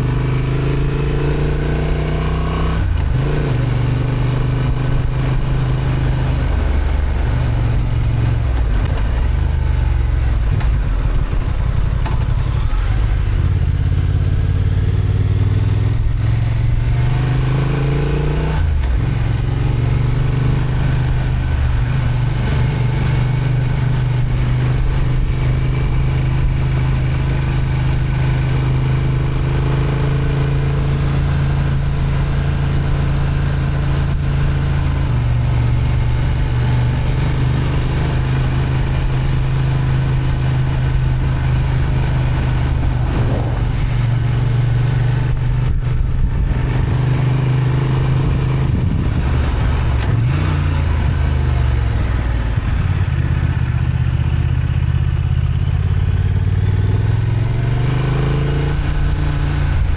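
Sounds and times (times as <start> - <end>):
motorcycle engine pulling on a climb: 0.0 - 56.2.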